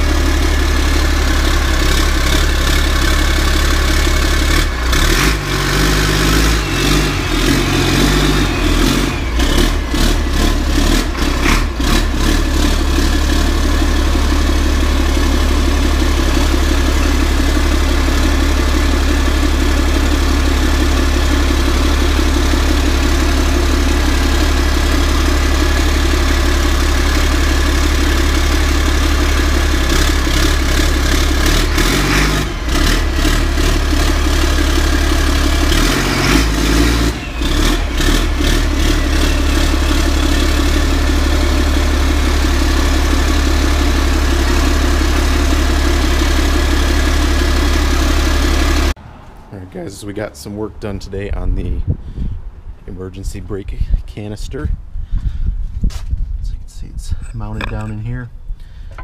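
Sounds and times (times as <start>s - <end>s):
diesel engine idling: 0.0s - 53.1s.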